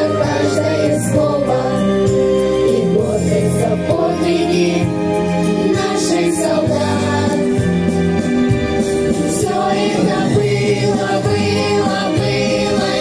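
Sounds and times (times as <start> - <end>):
vocal group singing: 0.0 - 7.8, 9.2 - 13.0
instrumental backing track: 0.0 - 13.0.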